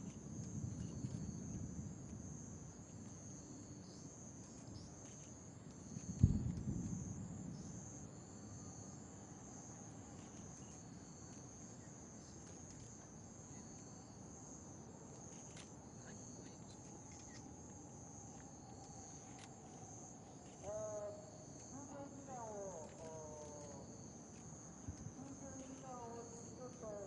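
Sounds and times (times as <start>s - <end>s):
faint low background noise: 0.0s - 27.0s
insects trilling: 0.0s - 27.0s.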